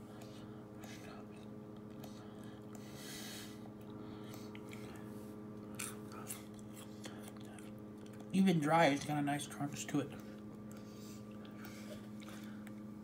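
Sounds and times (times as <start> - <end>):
steady low hum: 0.0 - 13.0
chewing dry cereal crunching: 0.1 - 3.0, 3.6 - 12.9.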